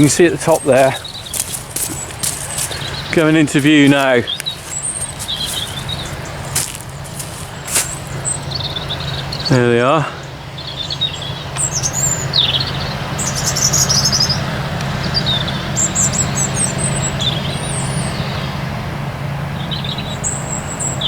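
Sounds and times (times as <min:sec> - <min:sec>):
small birds chirping: 0:00.0 - 0:18.8, 0:19.5 - 0:21.0
harvester and tractor drone: 0:00.0 - 0:21.0.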